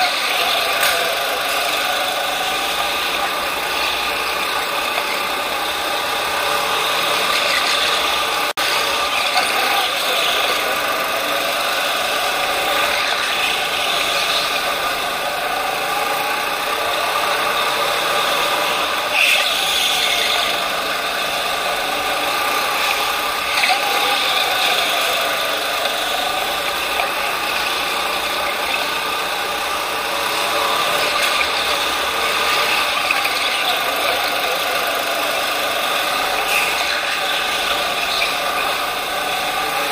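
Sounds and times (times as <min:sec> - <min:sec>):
go-kart motor revving: 0:00.0 - 0:39.9.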